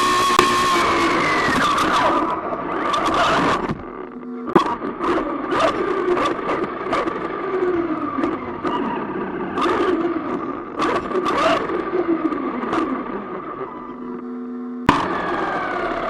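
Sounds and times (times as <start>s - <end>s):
rc car motor whine: 0.0s - 16.0s.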